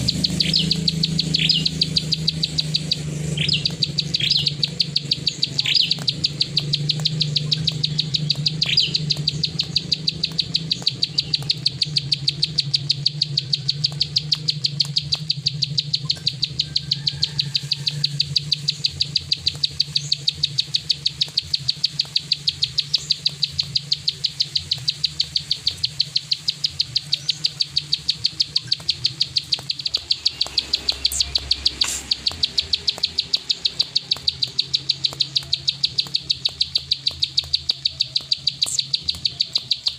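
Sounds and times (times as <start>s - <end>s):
bird giving dry clicking call: 0.0s - 39.9s.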